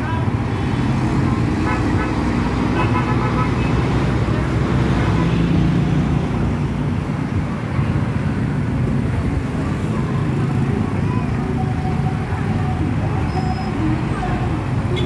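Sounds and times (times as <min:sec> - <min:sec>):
motorcycles passing: 0:00.0 - 0:15.0
traffic passing close by: 0:00.0 - 0:15.0.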